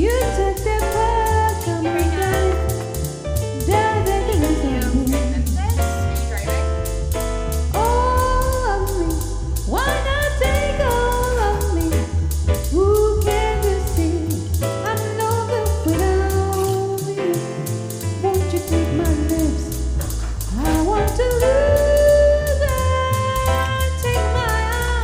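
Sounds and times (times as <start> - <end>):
song with vocals and band: 0.0 - 6.8, 7.7 - 25.0.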